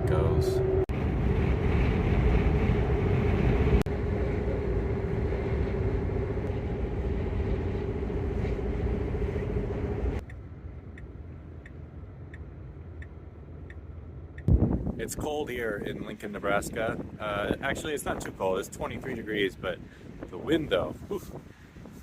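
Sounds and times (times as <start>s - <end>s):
road and wind noise in car: 0.0s - 22.0s.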